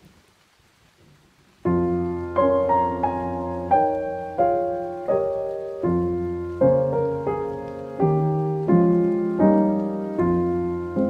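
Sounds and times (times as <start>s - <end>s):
solo piano piece: 1.6s - 11.0s.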